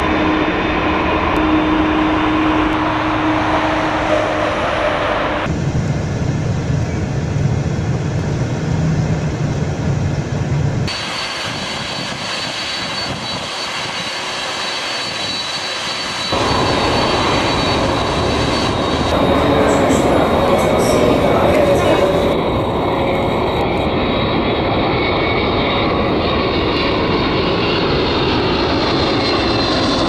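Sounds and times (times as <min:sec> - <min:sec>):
jet airliner rushing noise: 0:00.0 - 0:30.0.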